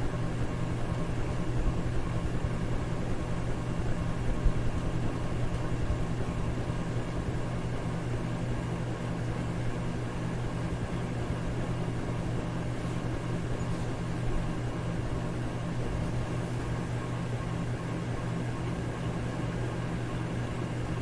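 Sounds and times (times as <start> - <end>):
electric fan running: 0.0 - 21.0.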